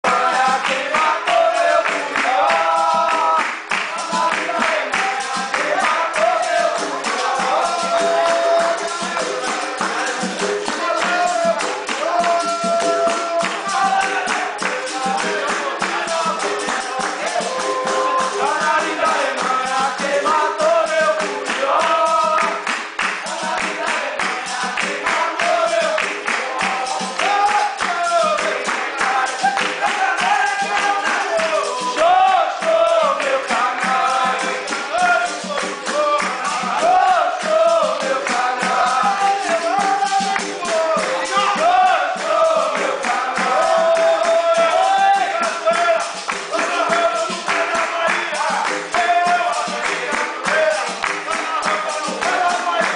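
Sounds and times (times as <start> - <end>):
hand percussion rhythm: 0.0 - 52.9
voices singing: 0.0 - 52.9.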